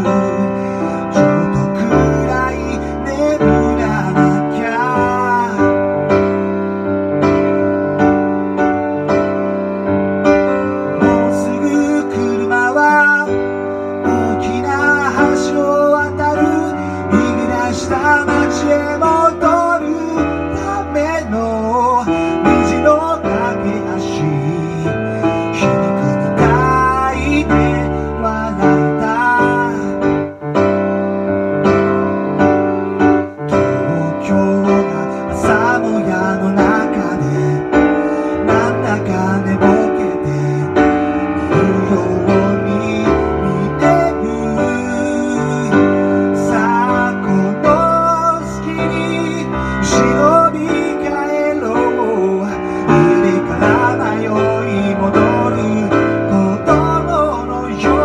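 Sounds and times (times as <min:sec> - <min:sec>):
man singing: 0:00.0 - 0:08.1, 0:10.3 - 0:30.5, 0:33.2 - 0:58.0
keyboard piano playing: 0:00.0 - 0:58.0.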